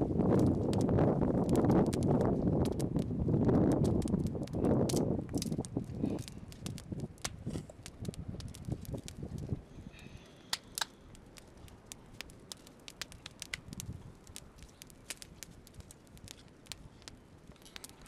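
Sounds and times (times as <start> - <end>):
twig fire crackling and popping: 0.0 - 18.0.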